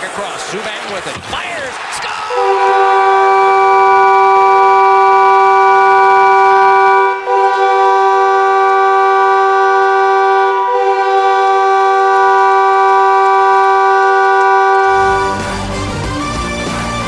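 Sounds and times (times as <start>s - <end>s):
goal horn blast: 2.3s - 17.0s.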